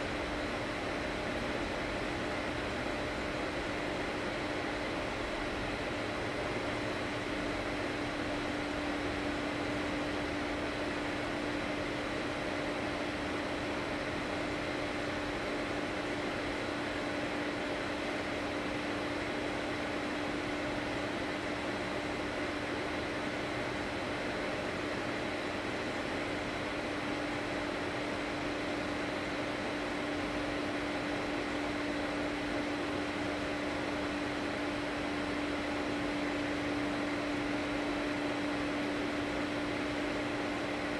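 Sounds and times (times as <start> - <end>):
steady hum and hiss: 0.0 - 40.9.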